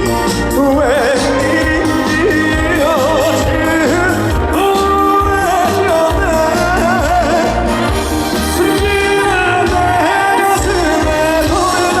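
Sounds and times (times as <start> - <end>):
live band music with bass beat: 0.0 - 12.0.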